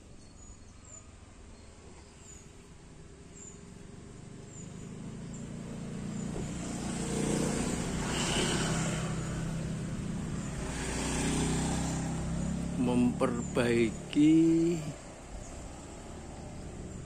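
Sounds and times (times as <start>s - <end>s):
vehicle engine approaching: 0.0s - 17.0s.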